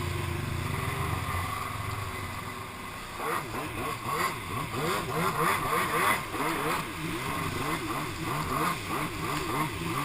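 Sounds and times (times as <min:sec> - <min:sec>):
jet ski engine revving: 0:00.0 - 0:10.0.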